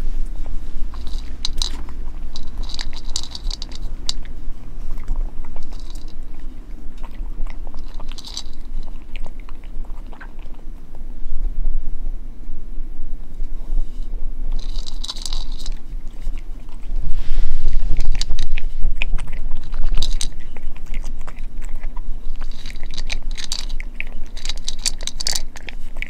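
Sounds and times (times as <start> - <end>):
cat crunching dry kibble: 0.0 - 11.1, 14.5 - 26.0.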